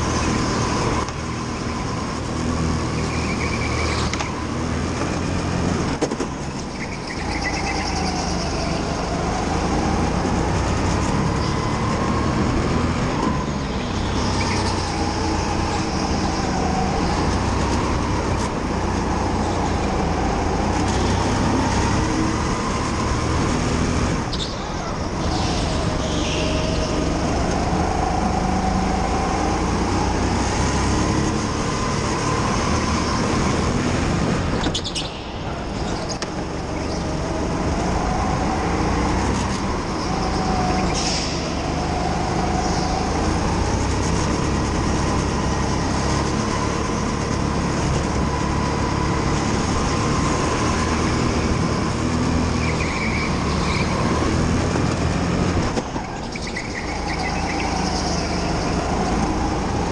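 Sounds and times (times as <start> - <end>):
chassis and track rumble: 0.0 - 59.9
go-kart engine: 0.0 - 59.9.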